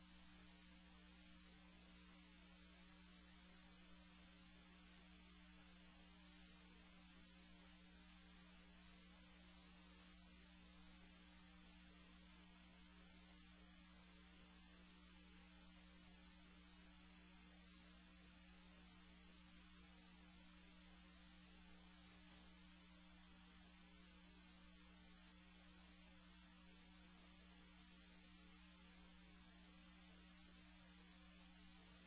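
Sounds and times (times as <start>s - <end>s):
faint electrical hum: 0.0s - 32.0s
low hiss: 0.0s - 32.0s.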